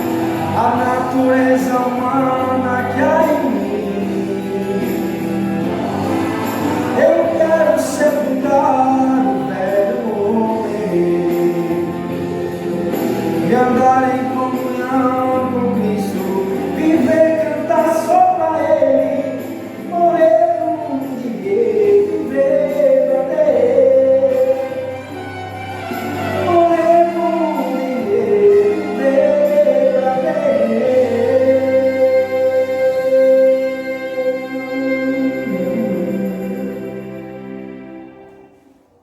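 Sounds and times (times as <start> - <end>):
gospel song with singing: 0.0 - 38.8.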